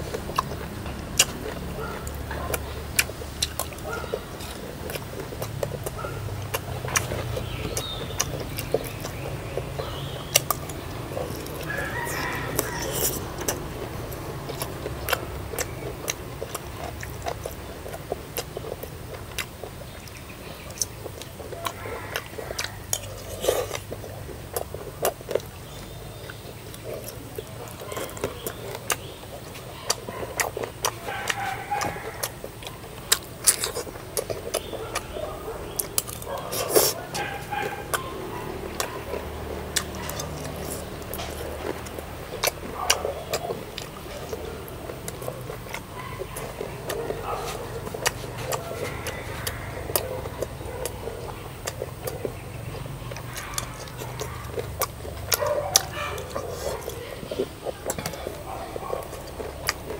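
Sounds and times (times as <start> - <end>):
faint voices: 0.0 - 59.9.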